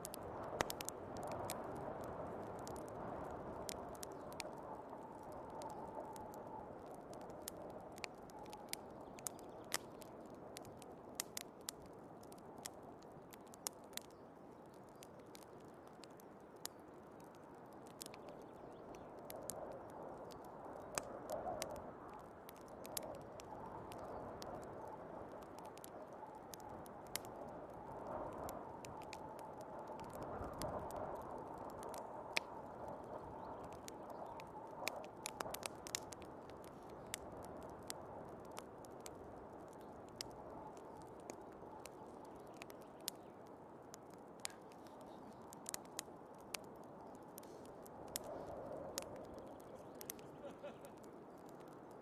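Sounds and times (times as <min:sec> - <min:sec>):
fireplace crackling and popping: 0:00.0 - 0:52.0.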